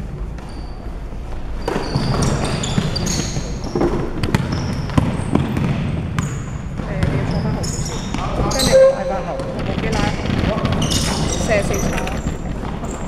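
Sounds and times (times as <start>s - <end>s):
sneakers squeaking on court: 0.3s - 13.0s
basketball bouncing: 1.6s - 13.0s.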